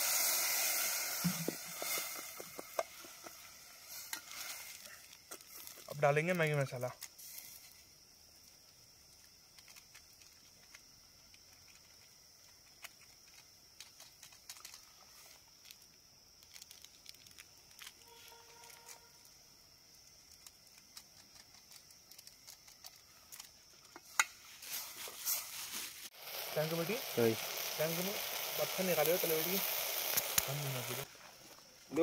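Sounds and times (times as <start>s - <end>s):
crackles and ticks of campfire cooking: 0.0s - 32.0s
steady high hiss: 0.0s - 32.0s.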